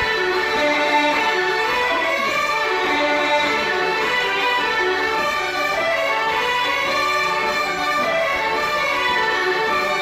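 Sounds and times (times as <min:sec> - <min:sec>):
bagpipes playing a tune: 0:00.0 - 0:10.0.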